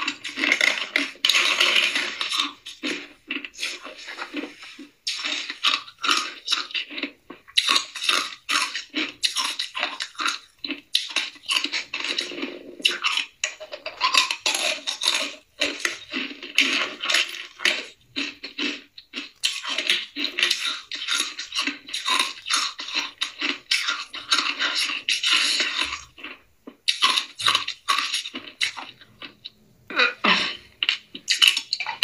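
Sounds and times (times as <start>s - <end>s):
ice cubes crunched and chewed: 0.0s - 29.5s, 30.2s - 32.0s.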